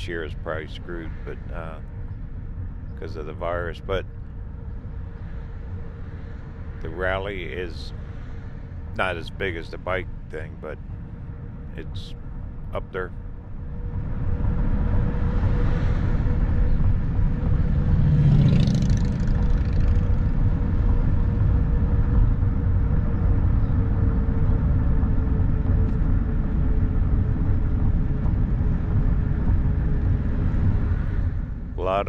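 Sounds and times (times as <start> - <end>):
vehicle engine and tyres rumbling: 0.0 - 32.0.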